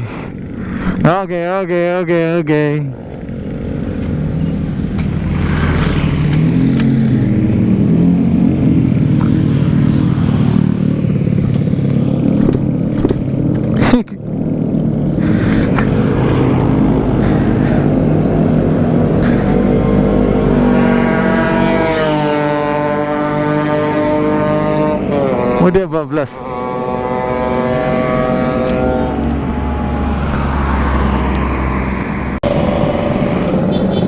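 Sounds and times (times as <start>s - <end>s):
two-stroke motorcycle engine: 0.0s - 29.8s, 32.4s - 34.0s.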